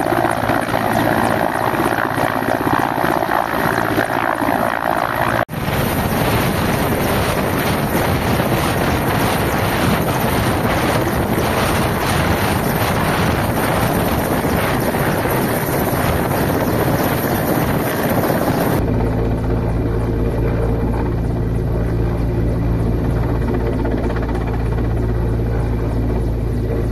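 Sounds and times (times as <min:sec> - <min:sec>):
helicopter turbine whine and rotor: 0:00.0 - 0:26.9
wind buffeting microphone: 0:00.0 - 0:26.9.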